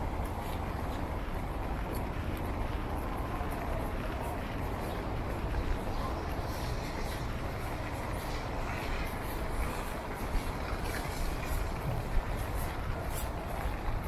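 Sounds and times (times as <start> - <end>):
city traffic on wet streets: 0.0 - 14.0.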